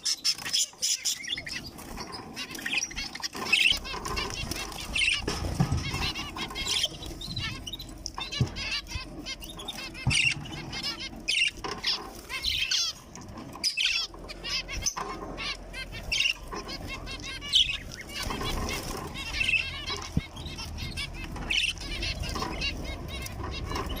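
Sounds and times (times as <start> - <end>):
finches chirping: 0.0 - 24.0
wing flutters: 0.0 - 24.0.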